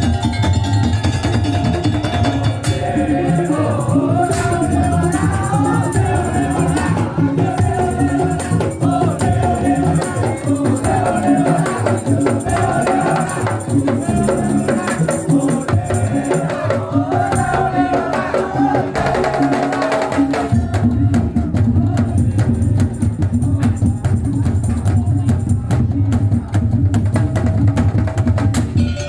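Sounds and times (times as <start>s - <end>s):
percussion beat: 0.0s - 29.0s.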